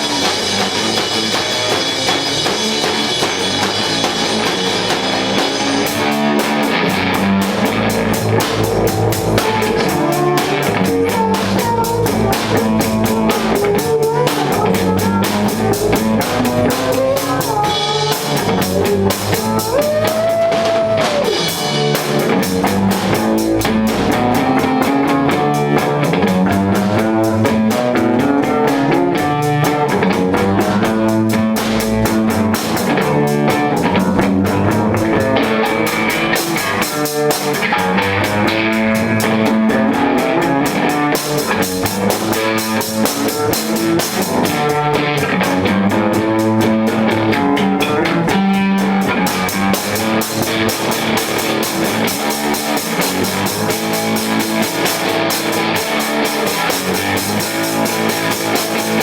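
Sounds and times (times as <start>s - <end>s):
bass guitar: 0.0s - 59.0s
distorted electric guitar: 0.0s - 59.0s
pounding drum kit: 0.0s - 59.0s.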